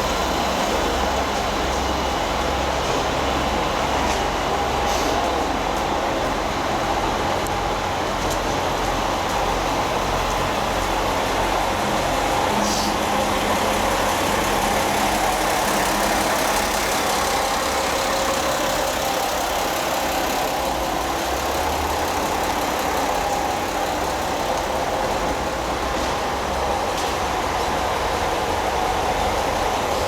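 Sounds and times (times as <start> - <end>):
diesel railcar engine idling: 0.0 - 30.0.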